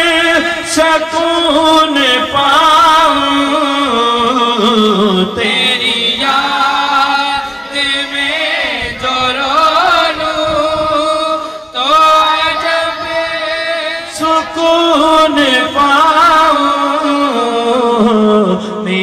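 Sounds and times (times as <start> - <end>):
man singing into microphone: 0.0 - 19.0.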